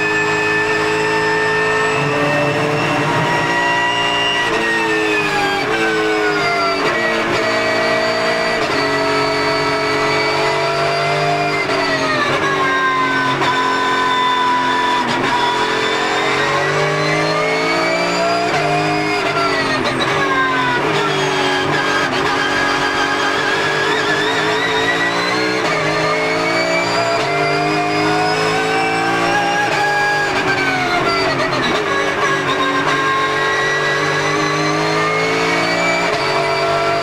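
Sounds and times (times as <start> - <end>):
high gear whine: 0.0 - 37.0
racing car engine: 0.0 - 37.0.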